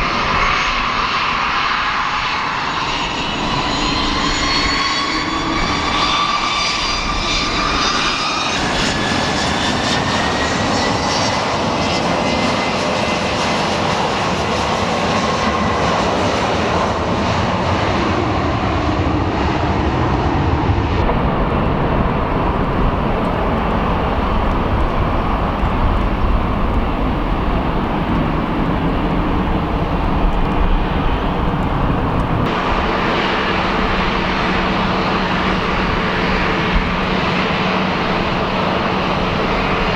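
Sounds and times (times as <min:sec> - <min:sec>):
jet engine whine rising: 0:00.0 - 0:14.2, 0:20.6 - 0:39.9
loud jet roar: 0:00.0 - 0:15.4, 0:20.6 - 0:39.9.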